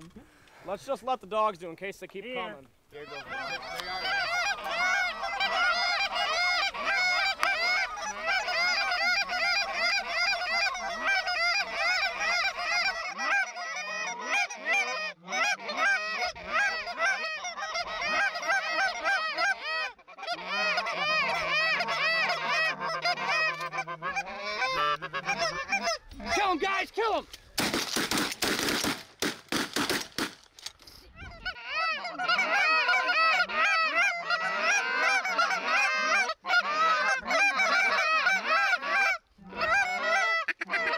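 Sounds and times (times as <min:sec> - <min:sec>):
geese honking: 0:02.4 - 0:27.3, 0:31.2 - 0:40.9.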